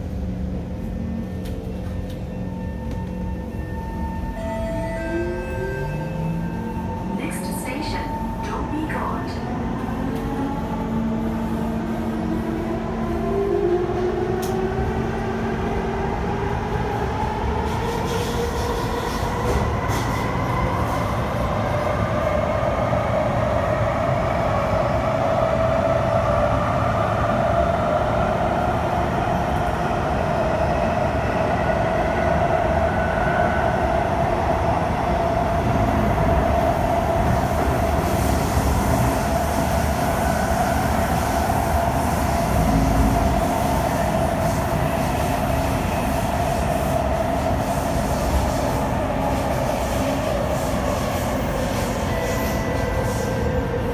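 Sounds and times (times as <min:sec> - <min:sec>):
wheels rumbling on rail: 0:00.0 - 0:53.9.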